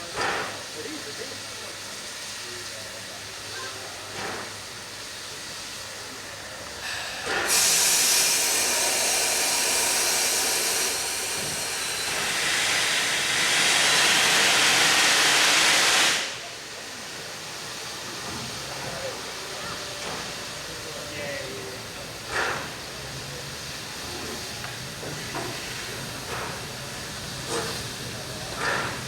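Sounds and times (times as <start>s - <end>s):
faint steady steam hiss: 0.0s - 29.0s
loud steam hiss: 0.0s - 29.0s.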